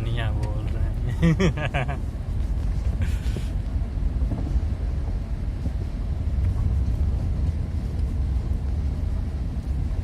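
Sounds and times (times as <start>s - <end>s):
vehicle rumbling: 0.0s - 10.0s.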